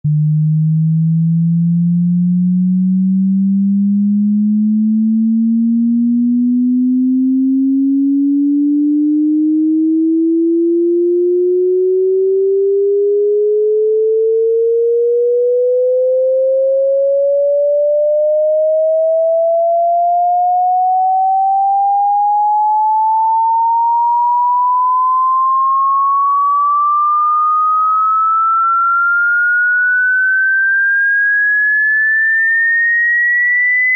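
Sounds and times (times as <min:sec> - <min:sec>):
rising sine-wave test tone: 0:00.0 - 0:33.9.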